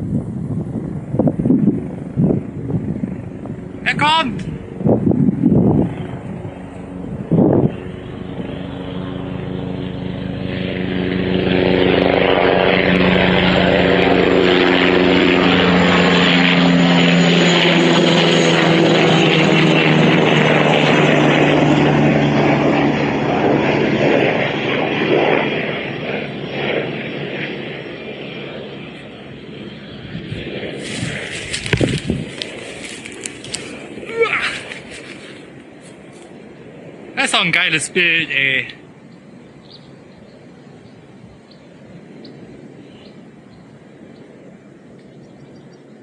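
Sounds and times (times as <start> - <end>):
helicopter flying past: 0.0 - 46.0.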